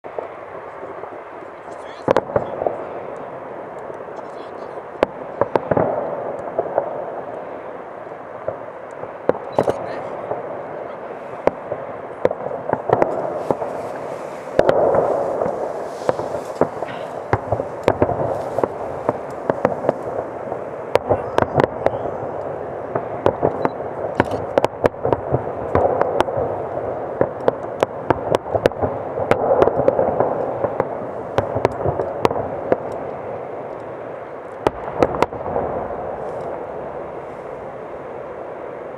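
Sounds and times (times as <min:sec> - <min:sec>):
fireworks bursting with bangs: 0:00.0 - 0:38.9.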